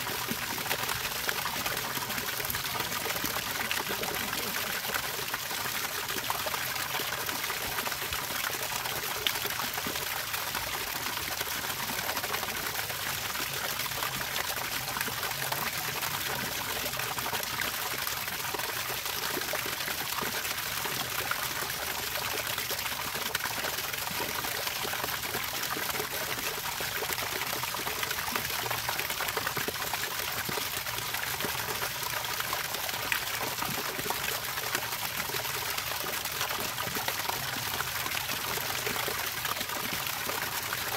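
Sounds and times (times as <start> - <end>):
water running and trickling: 0.0 - 40.9.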